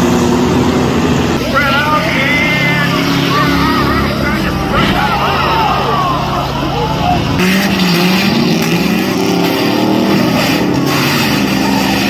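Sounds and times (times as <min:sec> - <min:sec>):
bus engines revving: 0:00.0 - 0:12.0.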